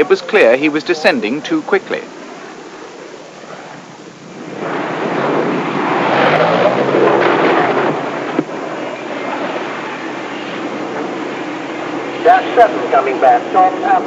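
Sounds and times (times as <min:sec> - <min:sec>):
aircraft roar: 0:00.0 - 0:14.0.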